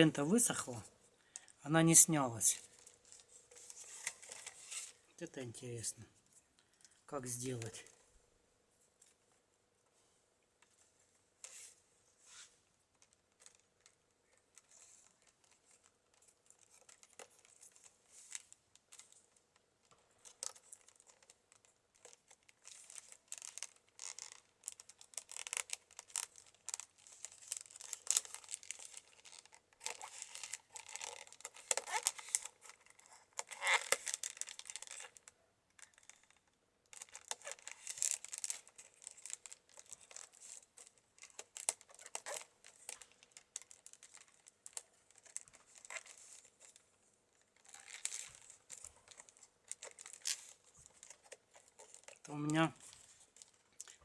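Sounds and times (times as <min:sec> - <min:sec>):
weaving strips rustling and crackling: 0:00.0 - 0:08.1, 0:08.8 - 0:54.0.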